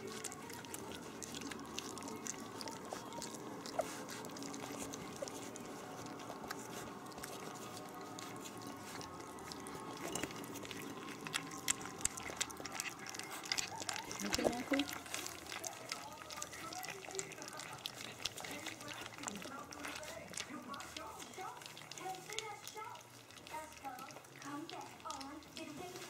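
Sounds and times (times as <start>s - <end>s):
puppies lapping food: 0.0s - 26.0s.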